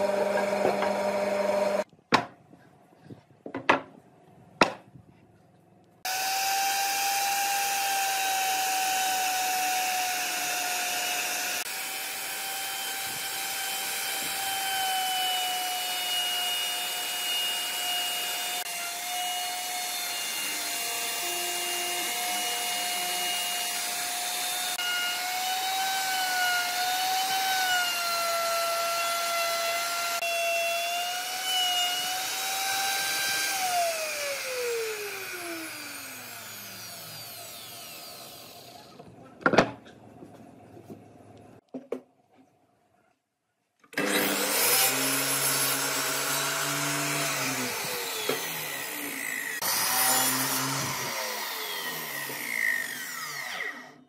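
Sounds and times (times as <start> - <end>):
router whining: 0.0 - 1.9, 6.1 - 39.0, 43.9 - 54.0.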